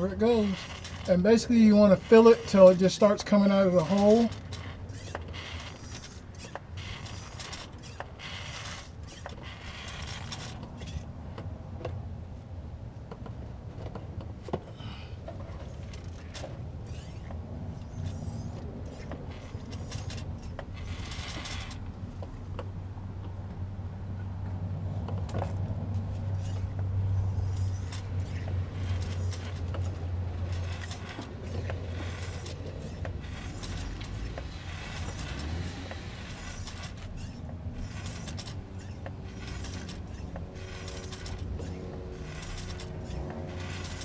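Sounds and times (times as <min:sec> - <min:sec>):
hand pump clicks and knocks: 0:00.0 - 0:12.0, 0:13.0 - 0:23.6, 0:25.0 - 0:44.0
steady low hum: 0:00.0 - 0:44.0.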